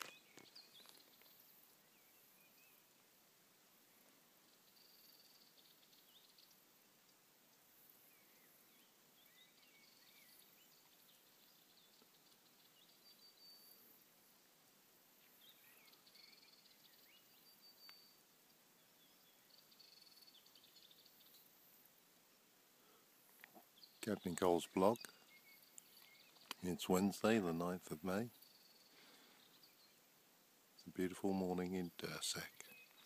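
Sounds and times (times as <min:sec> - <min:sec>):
faint distant birdsong: 0:00.0 - 0:33.0.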